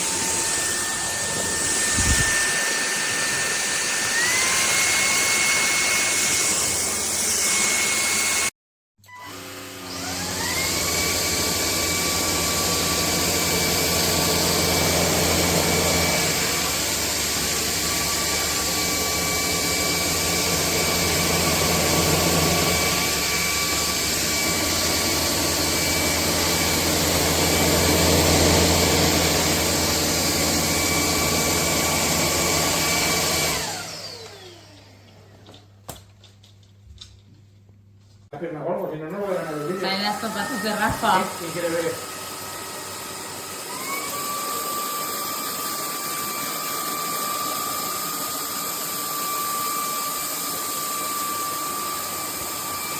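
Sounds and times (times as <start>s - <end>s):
vacuum cleaner motor whine: 0.0s - 35.6s, 39.1s - 52.9s.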